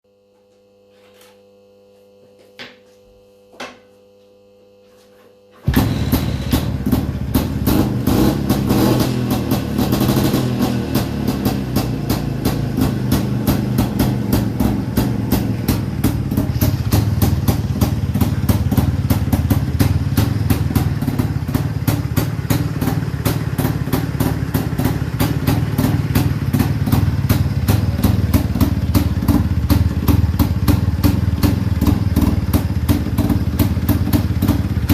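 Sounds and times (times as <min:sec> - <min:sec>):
motorcycle engine starting and running: 0:05.6 - 0:34.9.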